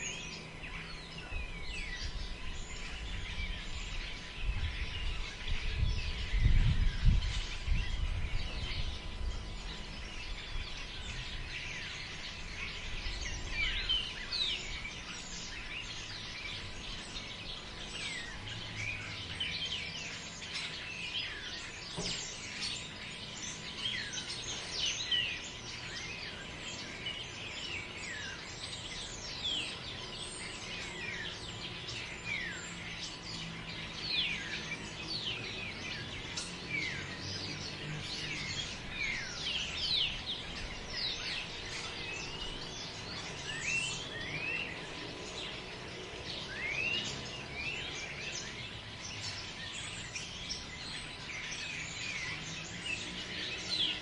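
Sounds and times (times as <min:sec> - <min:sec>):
chorus of birds chirping: 0:00.0 - 0:54.0.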